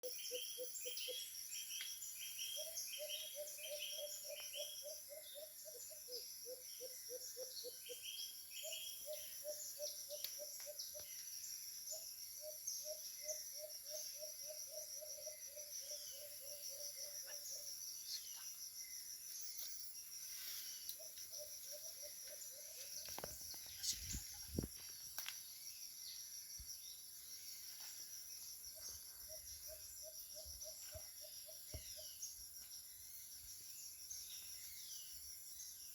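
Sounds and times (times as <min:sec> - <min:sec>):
insects trilling: 0:00.0 - 0:35.9.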